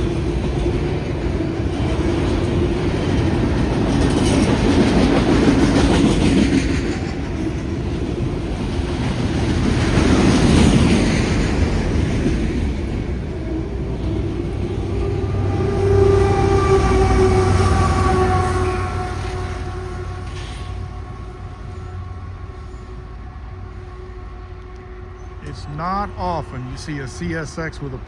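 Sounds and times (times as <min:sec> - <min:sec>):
freight train wheels clacking: 0:00.0 - 0:28.0.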